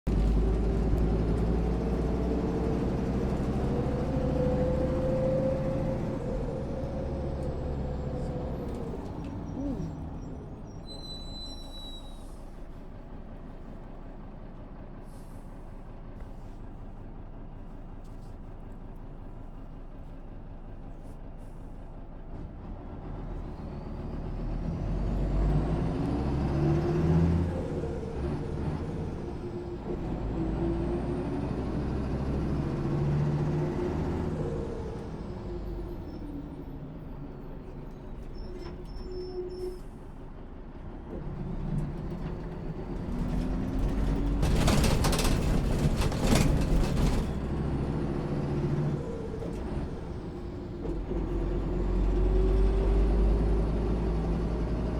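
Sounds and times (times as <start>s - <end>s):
bus diesel engine driving: 0.0s - 54.9s.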